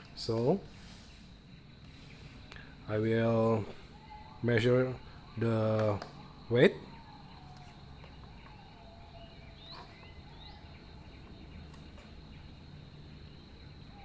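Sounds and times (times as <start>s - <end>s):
distant bird chirps: 0.0s - 14.0s
thin high insect whine: 0.0s - 14.0s.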